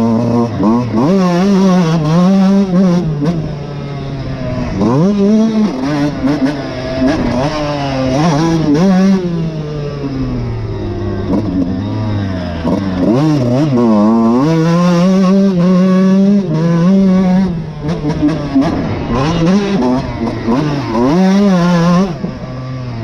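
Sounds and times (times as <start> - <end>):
two-stroke motocross engine revving: 0.0 - 23.0.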